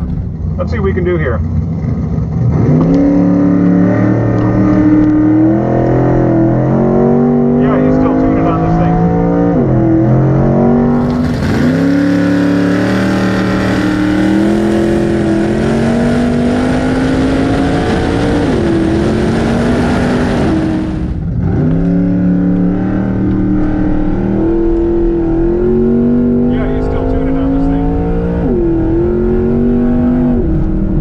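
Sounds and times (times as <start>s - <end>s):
drag truck engine running hard: 0.0s - 31.0s.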